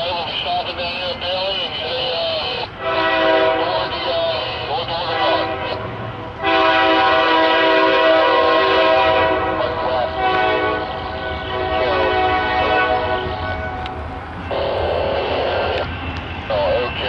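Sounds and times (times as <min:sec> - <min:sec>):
locomotive air horn blast: 0:02.8 - 0:17.0.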